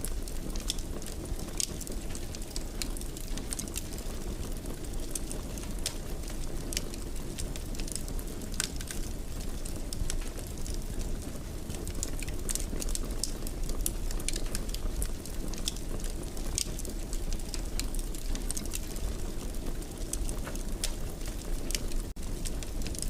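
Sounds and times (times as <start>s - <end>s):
fire crackling and popping: 0.0s - 23.0s
wood fire rumbling: 0.0s - 23.0s.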